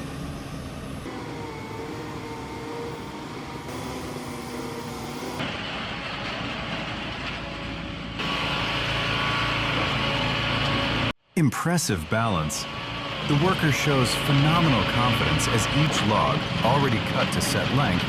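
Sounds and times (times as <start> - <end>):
heavy machinery engines droning: 0.0 - 18.0.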